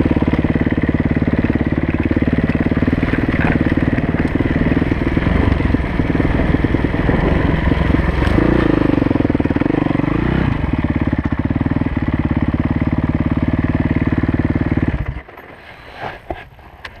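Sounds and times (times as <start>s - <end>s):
motorcycle engine winding down and idling: 0.0s - 15.6s.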